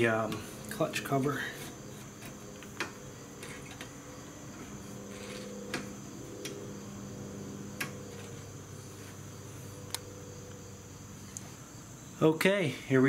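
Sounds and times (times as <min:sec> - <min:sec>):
high-pitched whine: 0:00.0 - 0:12.4
steady low hum: 0:00.0 - 0:13.0.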